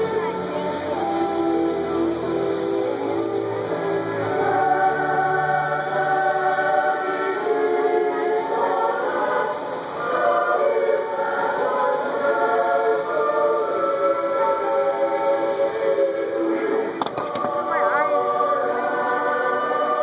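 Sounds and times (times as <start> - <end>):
choir singing held chords: 0.0 - 20.0.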